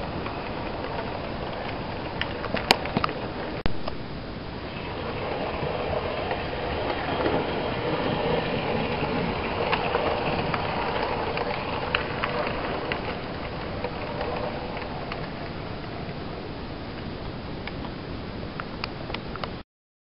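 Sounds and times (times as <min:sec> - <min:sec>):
model train rumbling on track: 0:00.0 - 0:16.8
wheels clicking over rail joints: 0:00.0 - 0:19.6.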